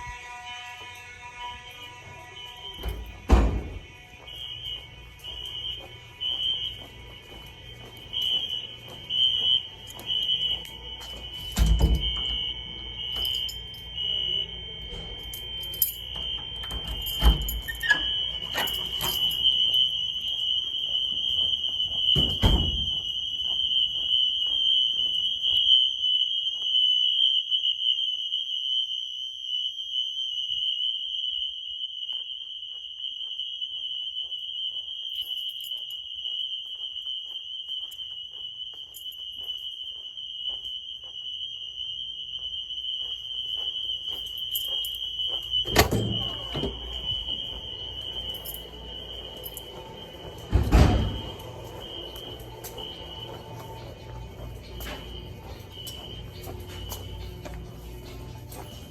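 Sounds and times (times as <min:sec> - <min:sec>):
high steady fire alarm tone: 0:00.0 - 0:58.9.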